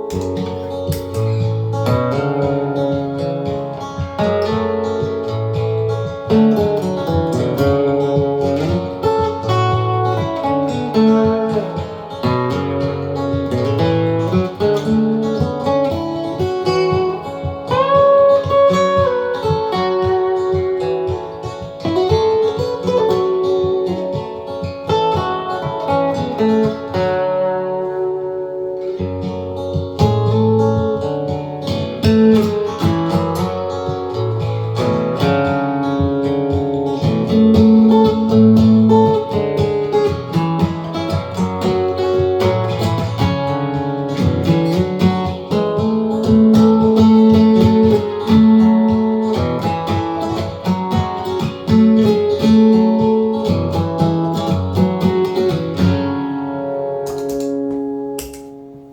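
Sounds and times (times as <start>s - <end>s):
acoustic guitar music: 0.0s - 58.9s.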